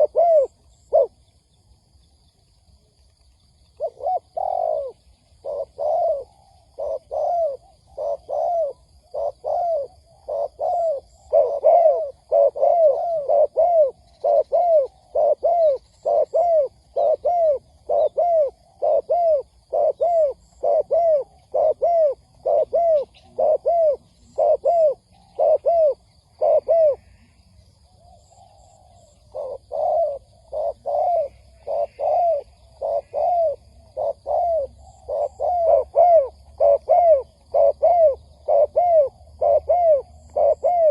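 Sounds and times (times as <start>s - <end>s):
dove cooing: 0.0s - 1.3s, 3.7s - 40.9s.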